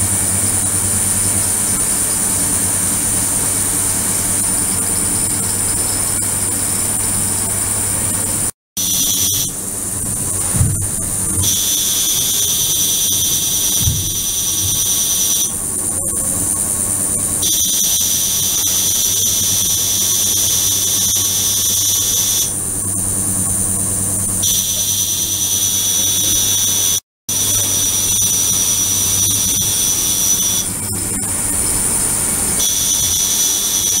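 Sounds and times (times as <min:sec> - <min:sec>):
high-pitched ultrasonic whine: 0:00.0 - 0:34.0.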